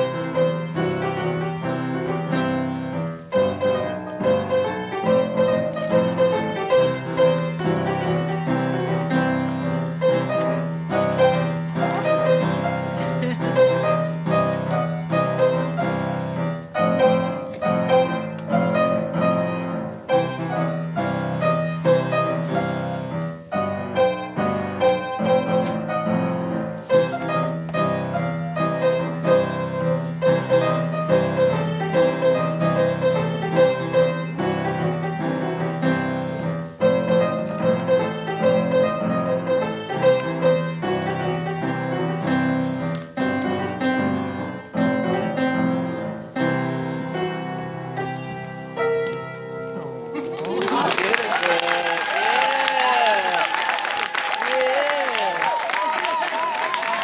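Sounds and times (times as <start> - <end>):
blues piano duet: 0.0 - 57.0.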